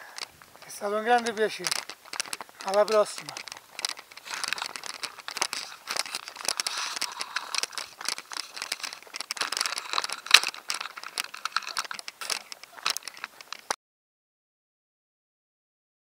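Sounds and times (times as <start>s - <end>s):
footsteps crunching leaves and gravel: 0.0s - 13.8s.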